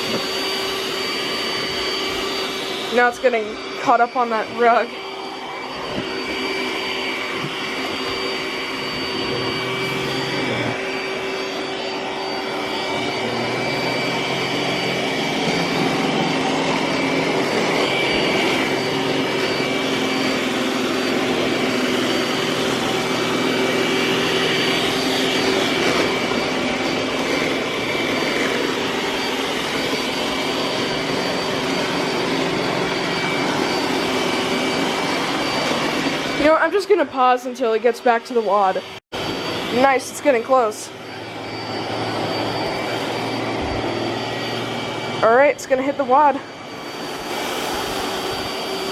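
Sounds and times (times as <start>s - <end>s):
robot vacuum running: 0.0s - 48.9s.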